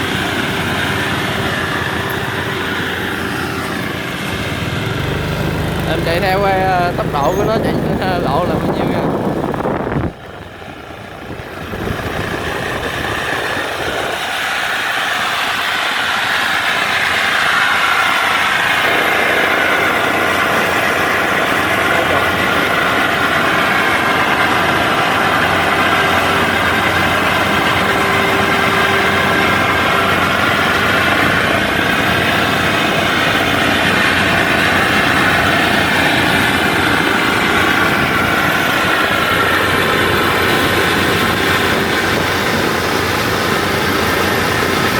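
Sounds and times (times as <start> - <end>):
combine harvester engine and tracks: 0.0 - 44.9
following vehicle engine: 0.0 - 44.9.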